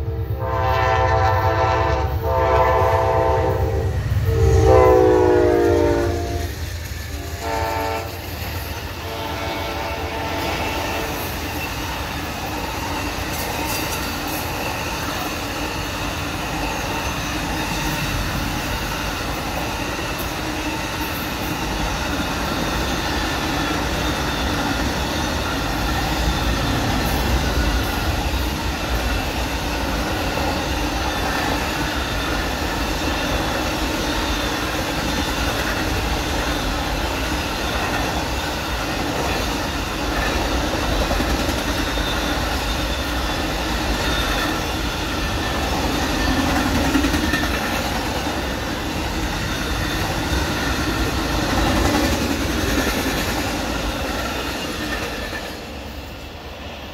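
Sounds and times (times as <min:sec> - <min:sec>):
train wheels rumbling on track: 0:00.0 - 0:56.9.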